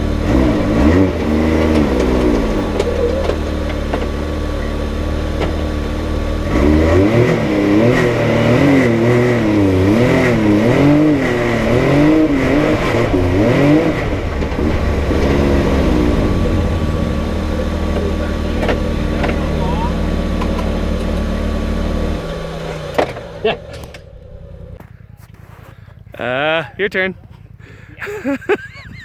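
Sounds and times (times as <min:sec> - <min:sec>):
utility vehicle engine revving: 0:00.0 - 0:29.0.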